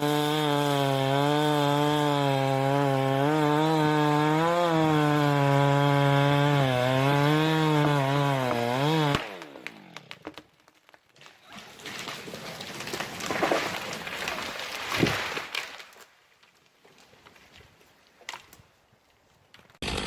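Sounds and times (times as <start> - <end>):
chainsaw cutting wood: 0.0 - 16.0, 19.6 - 20.0.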